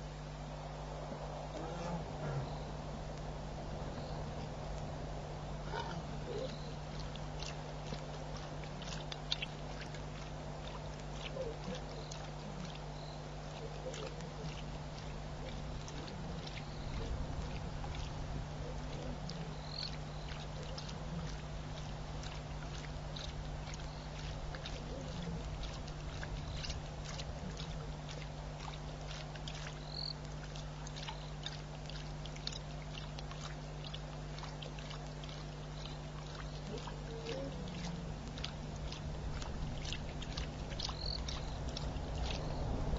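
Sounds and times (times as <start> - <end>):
electrical hum: 0.0 - 42.9.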